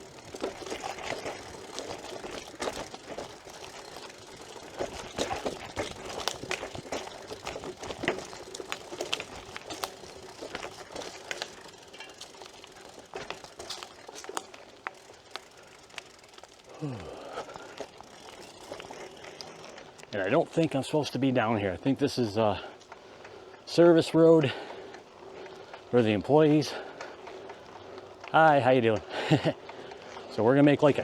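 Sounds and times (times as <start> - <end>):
bike rattling on rough trail: 0.0 - 31.0.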